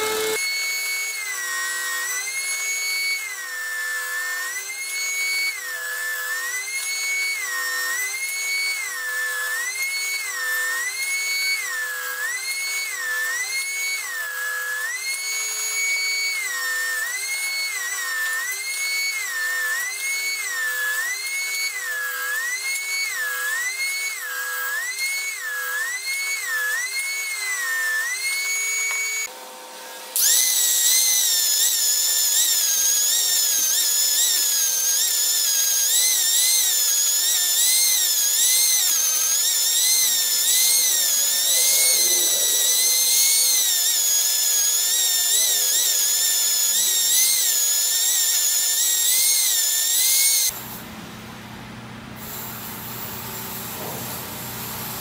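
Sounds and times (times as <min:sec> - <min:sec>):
angle grinder sanding wood: 0:00.0 - 0:50.9, 0:52.2 - 0:55.0
table saw cutting wood: 0:00.0 - 0:55.0.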